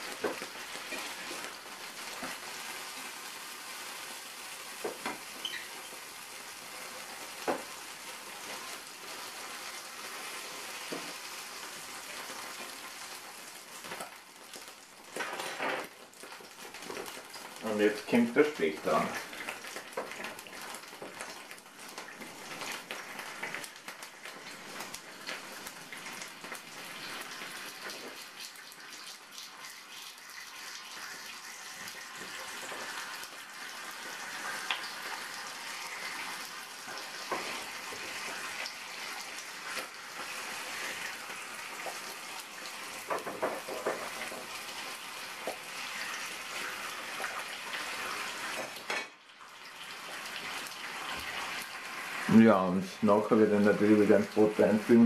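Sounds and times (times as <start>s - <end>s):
bacon sizzling in frying pan: 0.0s - 55.0s.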